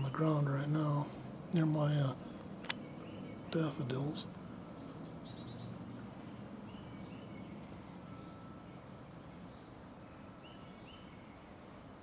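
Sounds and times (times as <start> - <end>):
outdoor background noise: 0.0 - 12.0
songbirds chirping: 0.0 - 12.0.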